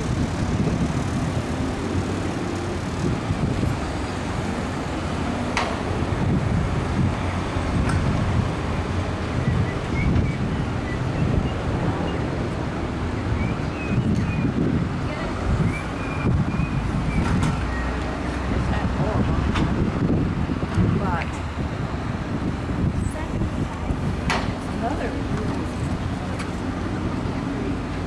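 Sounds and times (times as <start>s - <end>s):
traffic noise: 0.0s - 28.0s
vehicle engine rumble: 0.0s - 28.0s
wind buffeting microphone: 0.0s - 28.0s.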